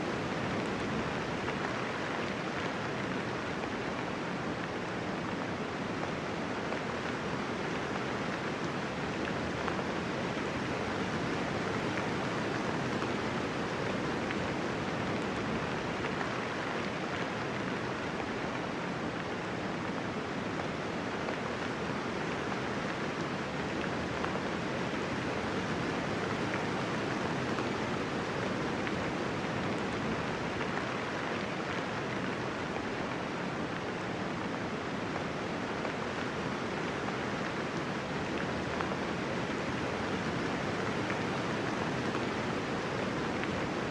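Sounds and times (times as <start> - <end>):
gentle rainfall: 0.0 - 43.9.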